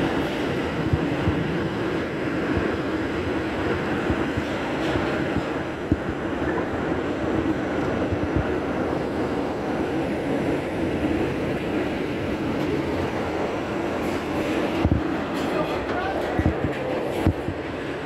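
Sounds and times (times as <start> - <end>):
subway train rumble and rail noise: 0.0 - 18.0.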